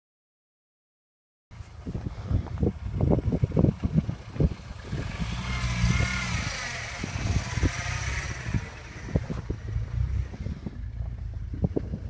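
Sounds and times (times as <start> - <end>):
vehicle engine idling: 1.5 - 12.0
wind buffeting microphone: 1.6 - 12.0.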